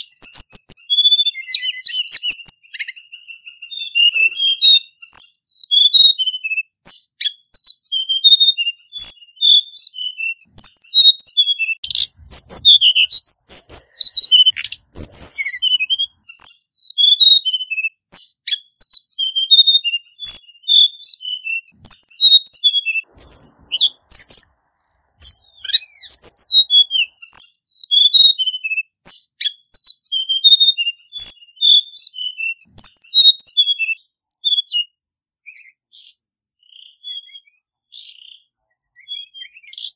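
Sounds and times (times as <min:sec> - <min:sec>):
bird singing high whistled notes: 0:00.0 - 0:39.9.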